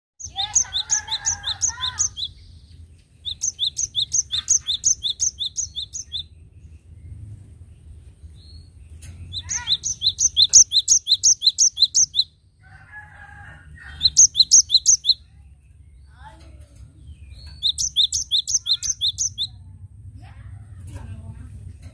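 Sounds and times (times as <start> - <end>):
lower bird chatter: 0.2 - 21.9
faint low rumble: 0.3 - 21.9.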